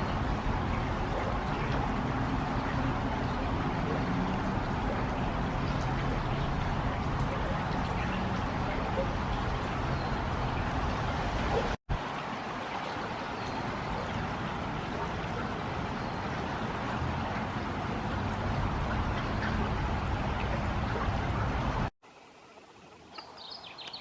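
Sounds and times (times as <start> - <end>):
steady rushing outdoor noise: 0.0 - 22.2.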